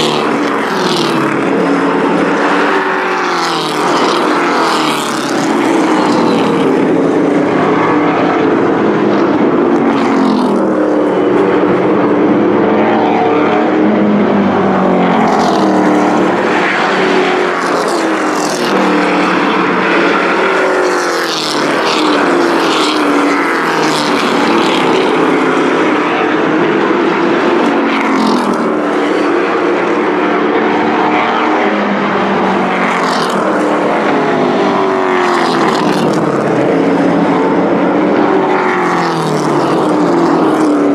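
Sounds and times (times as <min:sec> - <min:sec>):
race truck engines: 0:00.0 - 0:40.9.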